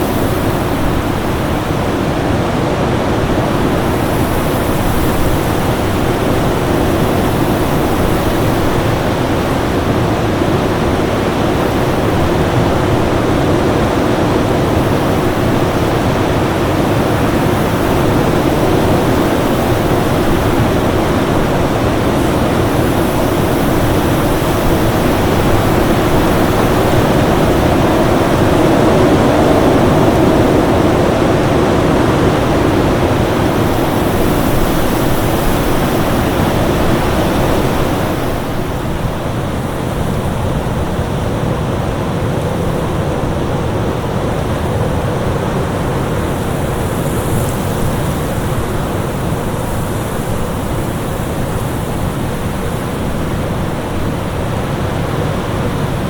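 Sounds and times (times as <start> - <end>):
rushing storm wind: 0.0 - 56.0.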